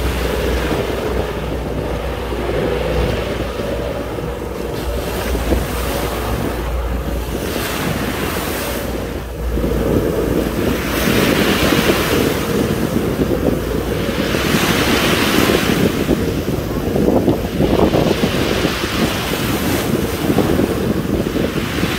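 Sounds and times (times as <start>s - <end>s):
sea waves washing onto shore: 0.0s - 21.9s
wind buffeting microphone: 0.0s - 21.9s.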